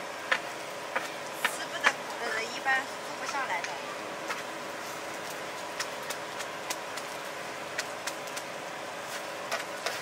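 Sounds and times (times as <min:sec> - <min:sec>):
potato sizzling on a griddle: 0:00.0 - 0:10.0.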